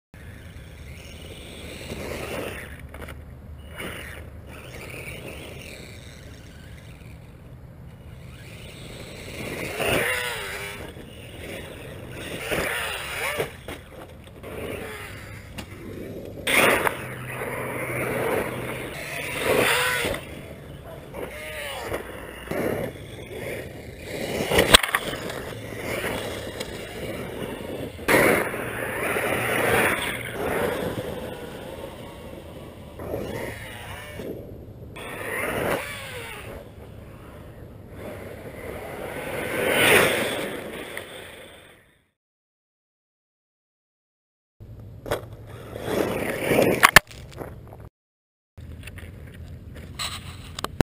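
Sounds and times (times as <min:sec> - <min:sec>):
rc truck tires on gravel: 0:00.2 - 0:42.1, 0:44.6 - 0:47.9, 0:48.6 - 0:50.8.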